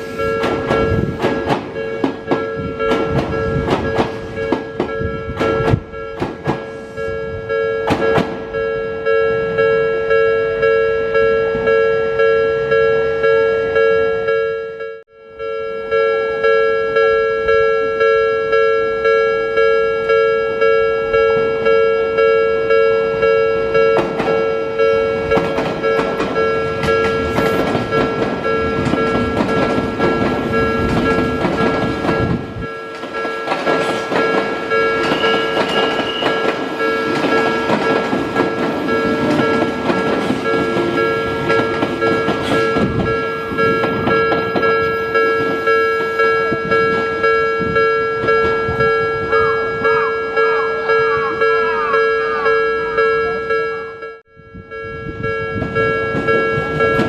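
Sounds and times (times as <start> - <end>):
train passing with wheel clatter: 0.0 - 13.0, 17.0 - 53.6, 54.7 - 57.0
level-crossing alarm bell: 0.0 - 57.0.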